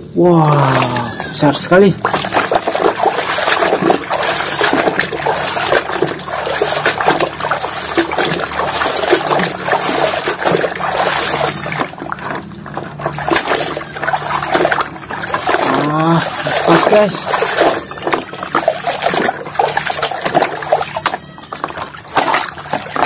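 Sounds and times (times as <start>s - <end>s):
muddy water splashing in a basin: 0.2s - 23.0s.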